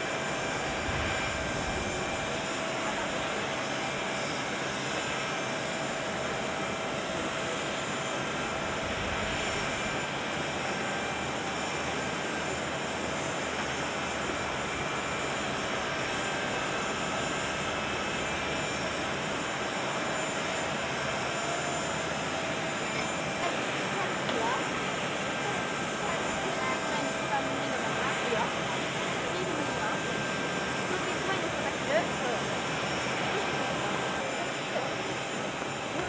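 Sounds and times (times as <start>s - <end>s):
jet engines idling: 0.0s - 36.0s.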